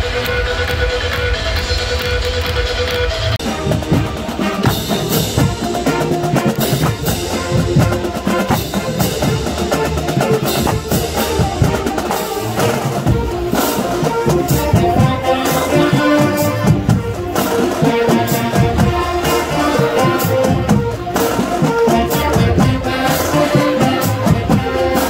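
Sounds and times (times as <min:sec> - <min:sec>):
marching band playing: 0:00.0 - 0:25.0.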